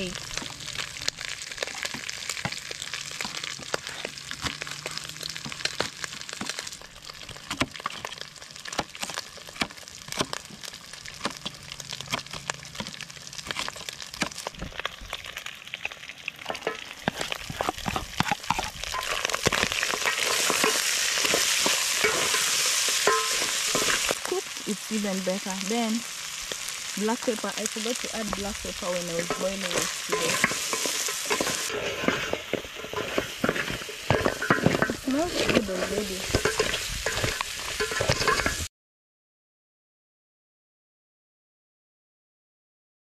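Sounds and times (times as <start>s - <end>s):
food sizzling in oil: 0.0s - 38.7s.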